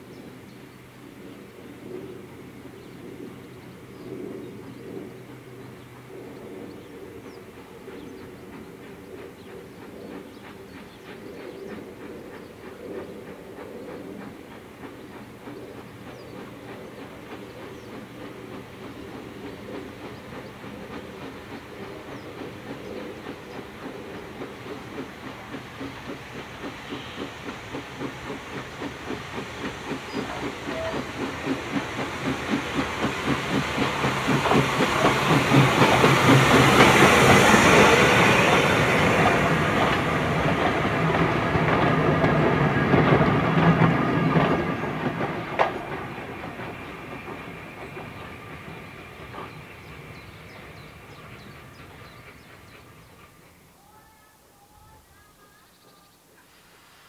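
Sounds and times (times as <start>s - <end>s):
steam locomotive exhaust beats: 0.0s - 54.3s.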